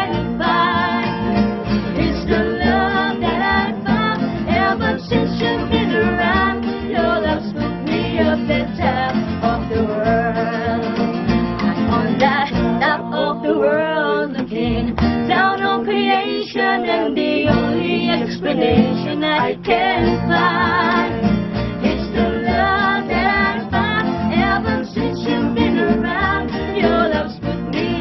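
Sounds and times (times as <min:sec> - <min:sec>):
acoustic guitars strumming: 0:00.0 - 0:28.0
upright double bass: 0:00.0 - 0:28.0
woman singing: 0:02.0 - 0:11.0, 0:11.6 - 0:21.2, 0:21.9 - 0:28.0.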